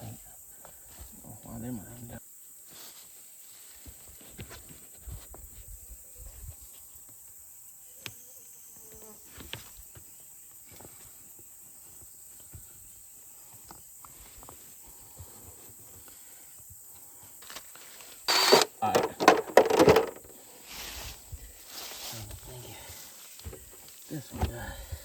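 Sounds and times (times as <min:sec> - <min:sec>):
steady high-pitched hiss: 0:00.0 - 0:25.0.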